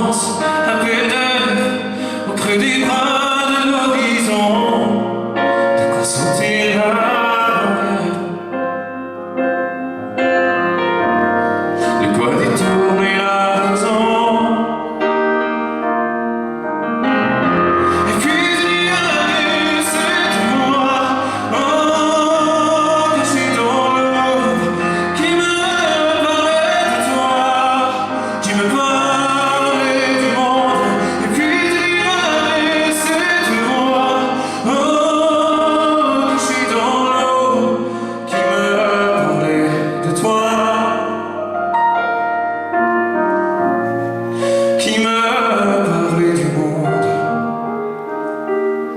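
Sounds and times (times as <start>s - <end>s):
person singing: 0.0s - 16.0s, 16.6s - 48.9s
piano: 0.0s - 48.9s.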